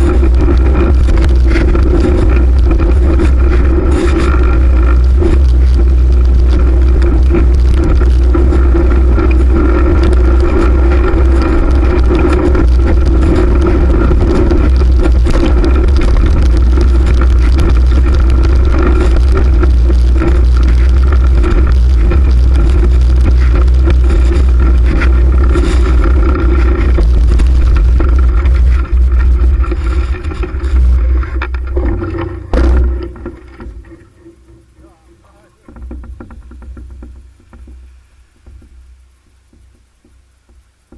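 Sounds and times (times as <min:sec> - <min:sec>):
tyre and road noise: 0:00.0 - 0:40.9.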